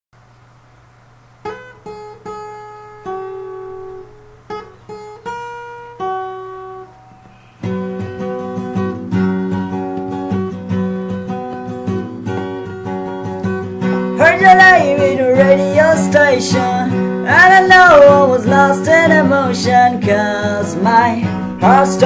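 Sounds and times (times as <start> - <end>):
acoustic guitar plucked and strummed: 0.2 - 22.0.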